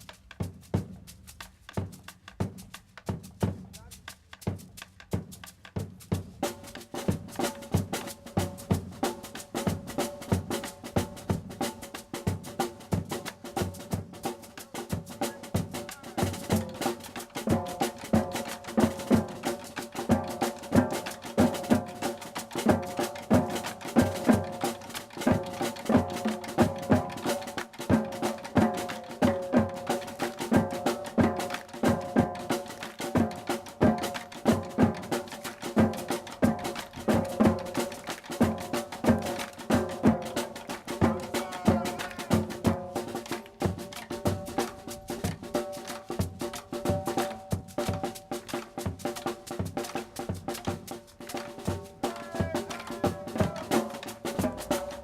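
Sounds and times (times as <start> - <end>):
percussion music: 0.0 - 55.0.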